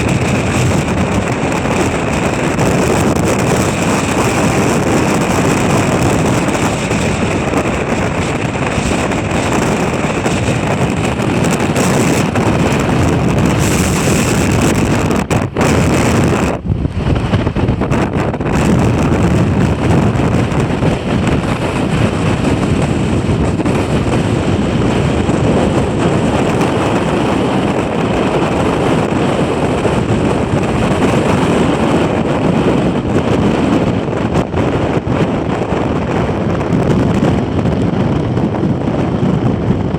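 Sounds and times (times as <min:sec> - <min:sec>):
gale-force wind buffeting microphone: 0:00.0 - 0:39.9.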